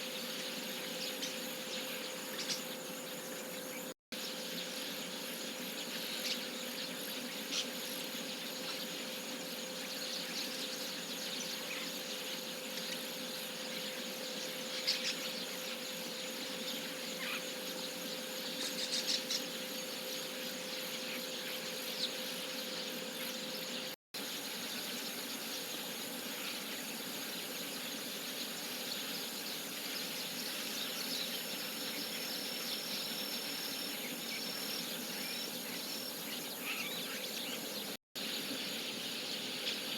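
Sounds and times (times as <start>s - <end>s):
outdoor background hiss: 0.0s - 39.9s
starling calls: 0.0s - 39.9s.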